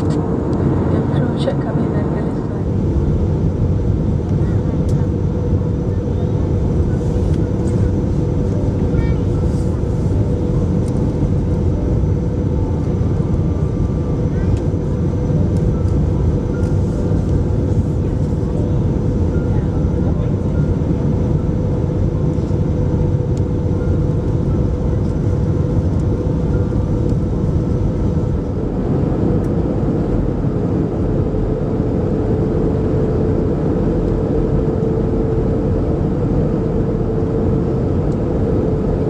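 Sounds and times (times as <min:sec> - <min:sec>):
airplane cabin engine rumble: 0:00.0 - 0:39.0
constant hum: 0:00.0 - 0:39.0.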